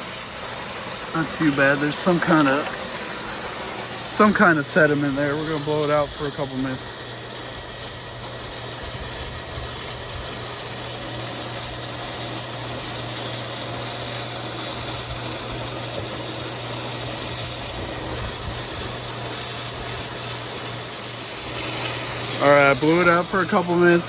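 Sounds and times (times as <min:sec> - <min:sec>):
water pump humming: 0:00.0 - 0:24.0
water rushing from outlet: 0:00.0 - 0:24.0.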